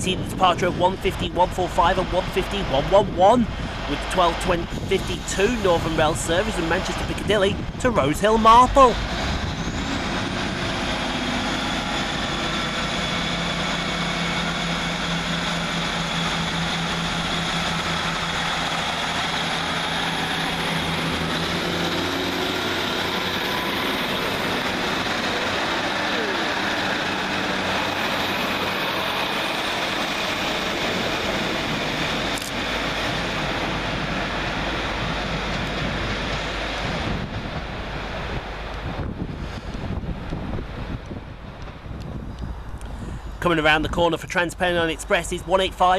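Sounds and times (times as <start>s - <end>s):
diesel train engines running: 0.0s - 45.9s.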